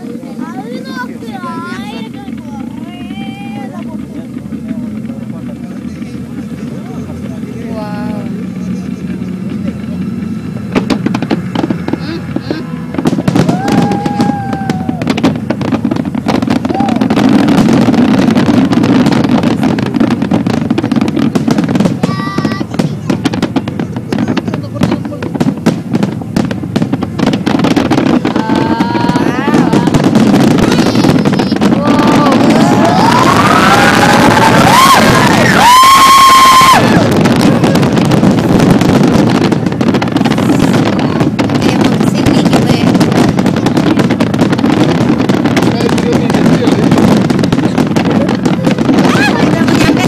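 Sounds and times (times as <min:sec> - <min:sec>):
fireworks bursting and crackling: 0:00.0 - 0:50.0
low rumble: 0:00.0 - 0:50.0.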